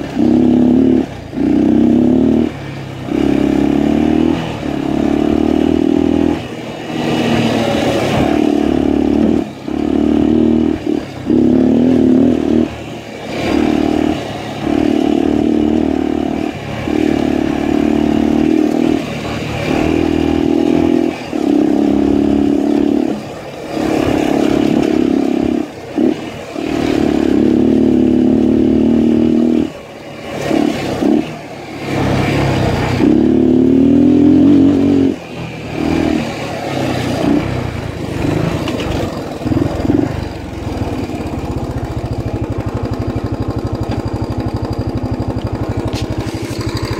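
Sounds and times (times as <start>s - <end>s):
motorcycle engine running under load: 0.0s - 46.9s.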